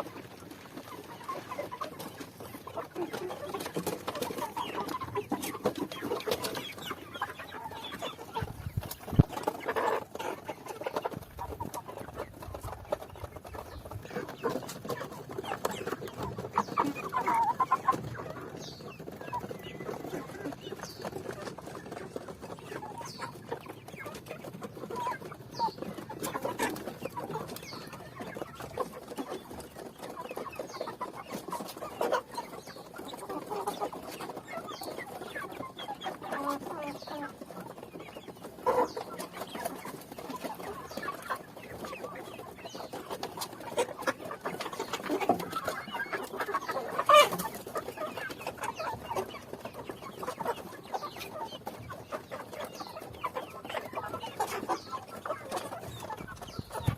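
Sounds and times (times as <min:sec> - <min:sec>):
chickens clucking: 0:00.0 - 0:56.9.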